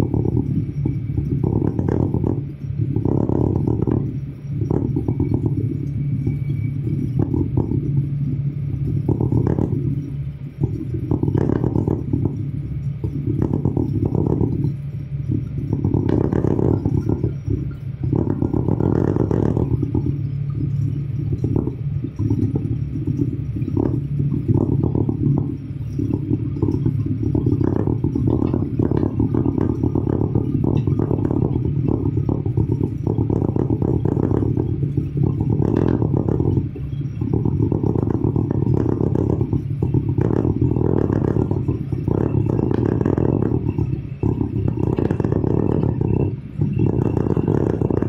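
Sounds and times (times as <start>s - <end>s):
tractor diesel engine running: 0.0s - 48.0s
windshield rattling and buzzing: 0.0s - 48.0s.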